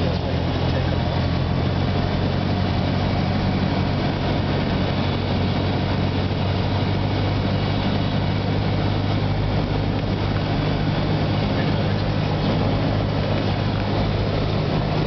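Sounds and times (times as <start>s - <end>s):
aircraft engine drone in cabin: 0.0s - 15.0s.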